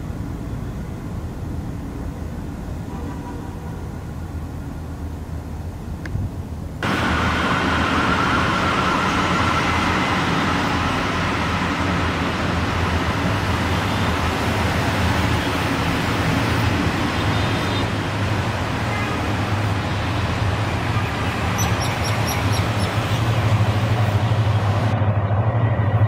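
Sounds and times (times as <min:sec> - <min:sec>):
passing train rumble: 0:00.0 - 0:26.0
train rushing noise: 0:00.0 - 0:26.0.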